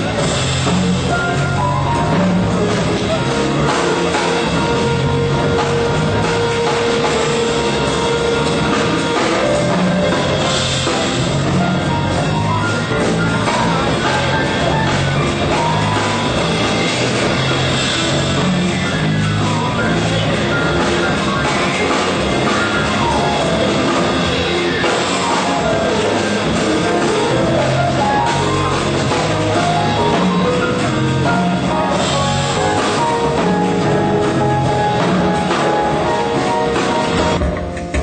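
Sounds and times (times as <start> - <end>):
jazz piano trio playing: 0.0 - 38.0.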